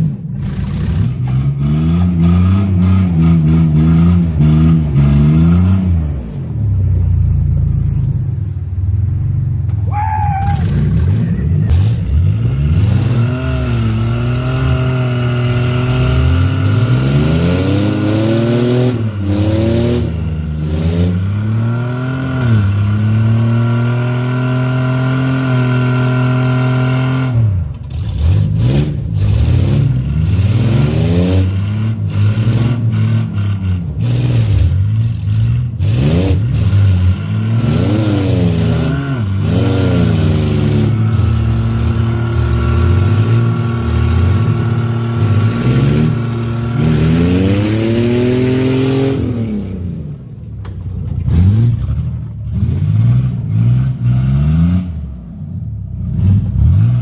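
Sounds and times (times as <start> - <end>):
car engine revving: 0.0 - 8.5, 10.4 - 57.0.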